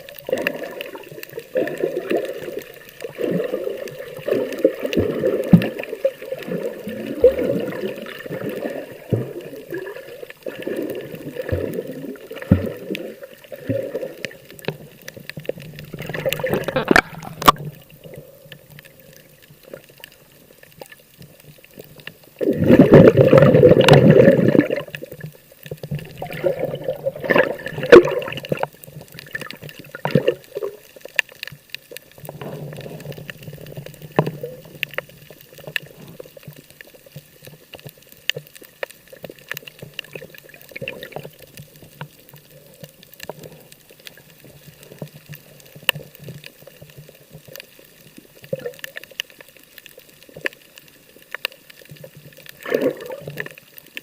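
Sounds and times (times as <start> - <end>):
water rushing and splashing: 0.0 - 54.0
water sloshing and gurgling: 0.0 - 54.0.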